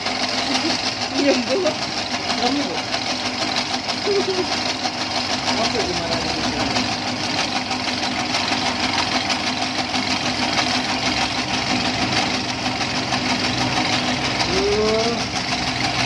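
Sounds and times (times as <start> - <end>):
noodle machine motor humming: 0.0 - 16.0.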